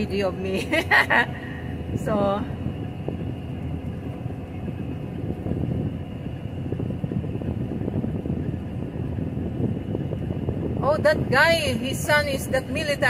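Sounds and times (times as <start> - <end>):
combine harvester engine drone: 0.0 - 13.0
faint high whine: 0.0 - 13.0.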